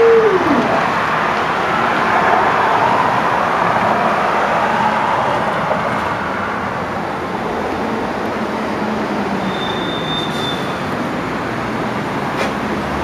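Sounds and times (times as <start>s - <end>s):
street traffic rushing: 0.0s - 13.0s.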